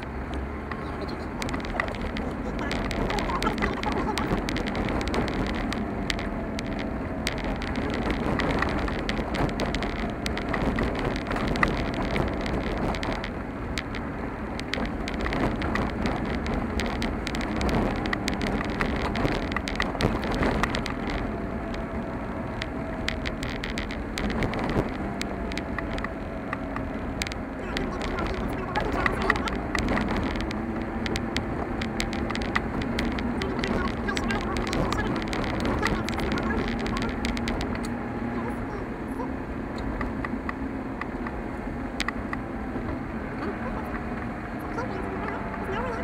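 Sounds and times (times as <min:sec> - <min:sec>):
car road and engine noise: 0:00.0 - 0:46.0
small clicks and rattles: 0:00.0 - 0:46.0.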